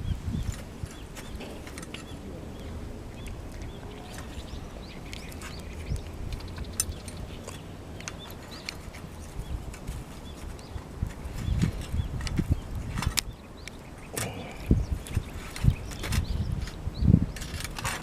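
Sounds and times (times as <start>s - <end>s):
steady low rumble: 0.0s - 17.4s
small birds chirping: 0.0s - 18.0s.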